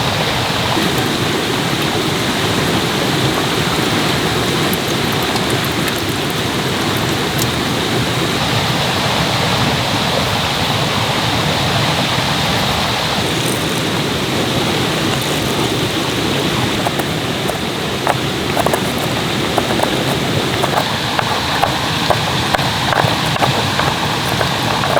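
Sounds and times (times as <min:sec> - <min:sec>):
stream rushing over rocks: 0:00.0 - 0:24.9.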